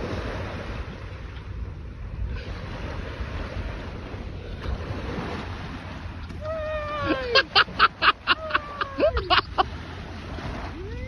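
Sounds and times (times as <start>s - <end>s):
surf: 0.0s - 11.0s
wind: 0.0s - 11.0s.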